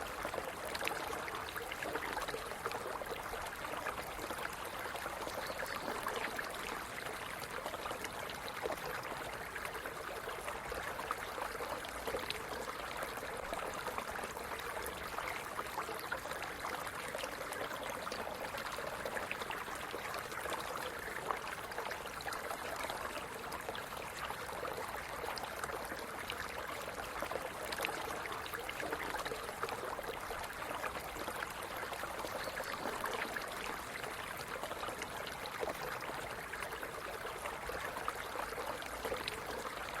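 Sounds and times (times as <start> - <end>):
small stream trickling: 0.0 - 40.0.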